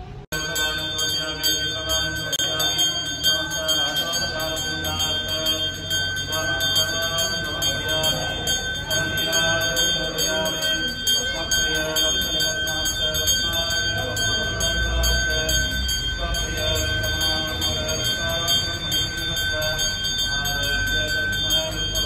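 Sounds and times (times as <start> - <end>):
hand bell ringing rapidly: 0.4 - 22.0.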